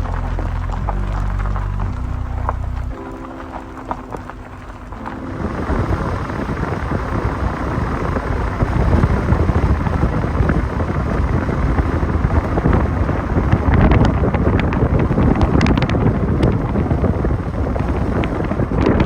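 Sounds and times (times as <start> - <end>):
music: 0.0 - 19.0
wind buffeting microphone: 0.0 - 19.0.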